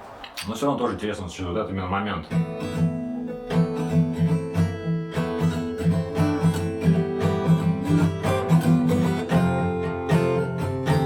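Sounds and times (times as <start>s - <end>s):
acoustic guitar strumming: 2.1s - 11.0s.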